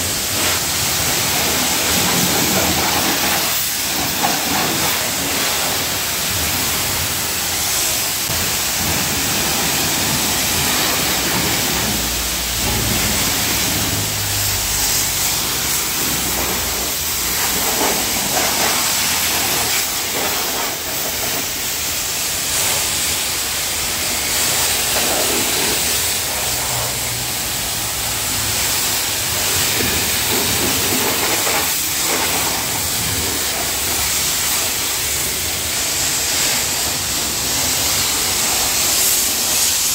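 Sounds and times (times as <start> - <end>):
pressure washer jet spraying water: 0.0 - 39.9.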